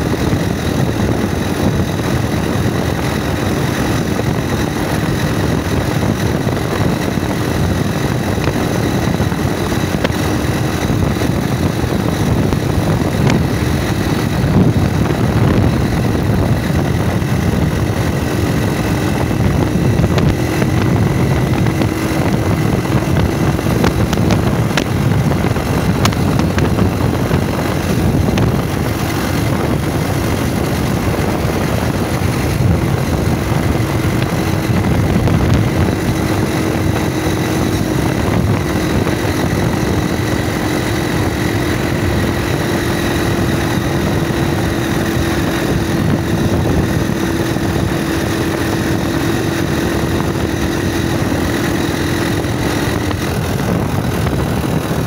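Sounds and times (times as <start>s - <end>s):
motorcycle engine cruising: 0.0s - 55.0s
wind and road noise: 0.0s - 55.0s.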